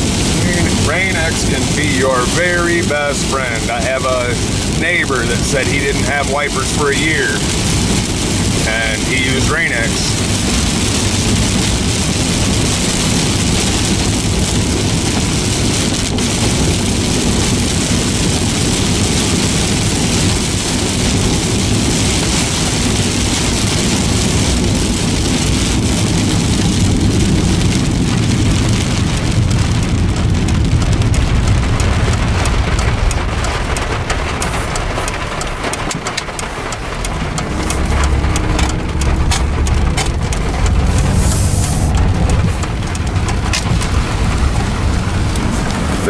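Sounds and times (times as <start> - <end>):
heavy rain on car: 0.0 - 46.0
tyres on wet road: 0.0 - 46.0.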